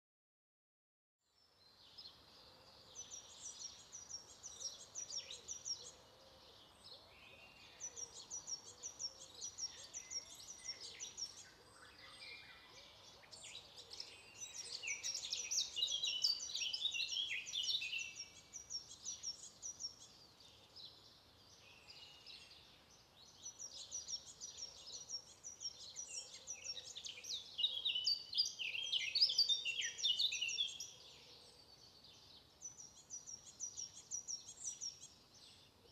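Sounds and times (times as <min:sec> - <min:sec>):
birds chirping and singing: 0:01.7 - 0:35.9.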